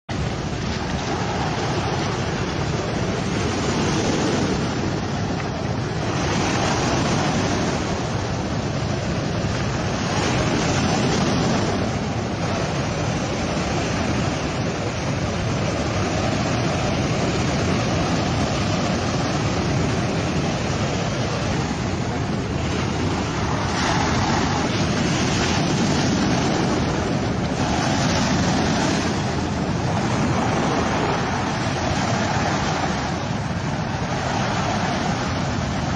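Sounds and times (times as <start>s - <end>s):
surf on pebble beach: 0.1s - 35.9s
wind on microphone: 0.1s - 35.9s.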